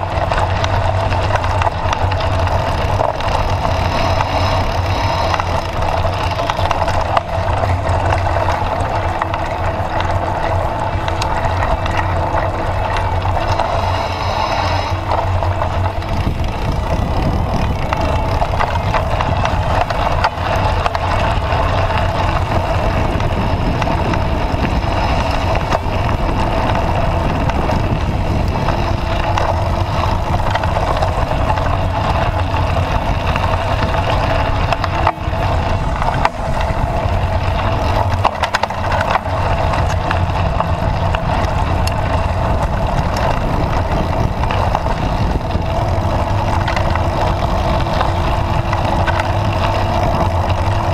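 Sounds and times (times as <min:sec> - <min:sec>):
bike riding noise: 0:00.0 - 0:50.9.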